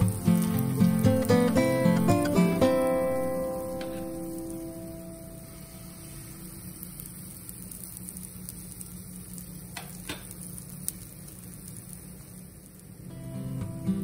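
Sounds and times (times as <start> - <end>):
batter sizzling in a pan: 0.0 - 14.0.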